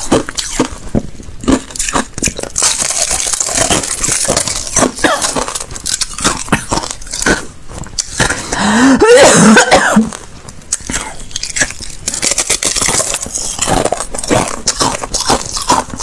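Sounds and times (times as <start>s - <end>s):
ice being chewed: 0.0s - 8.7s, 10.1s - 16.0s.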